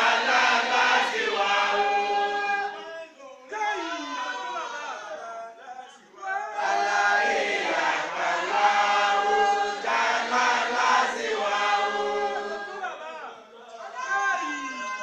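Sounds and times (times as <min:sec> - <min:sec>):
congregation chanting in unison: 0:00.0 - 0:15.0.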